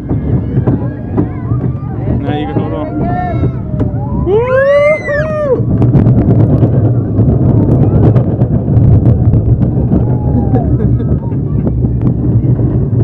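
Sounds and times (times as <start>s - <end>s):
roller coaster rumbling and clattering: 0.0s - 13.0s
wind buffeting microphone: 0.0s - 13.0s.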